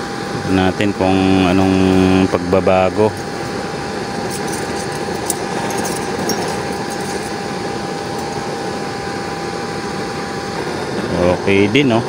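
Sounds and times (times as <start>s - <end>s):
oil burner rushing: 0.0s - 12.0s
thin steady whine: 0.0s - 12.0s.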